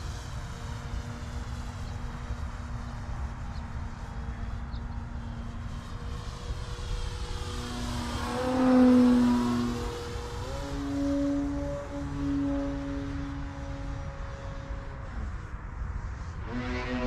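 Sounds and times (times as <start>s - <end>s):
model plane propeller drone: 0.0s - 17.0s.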